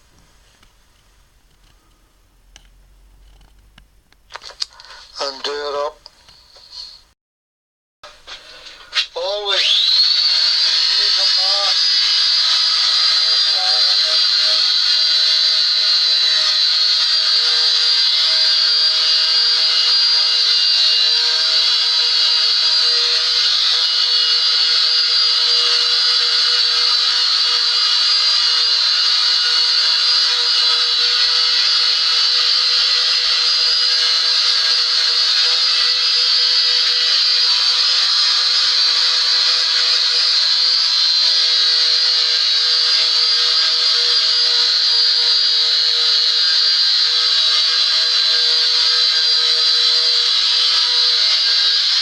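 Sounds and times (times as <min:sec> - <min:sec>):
electric sander running: 0:09.5 - 0:52.0.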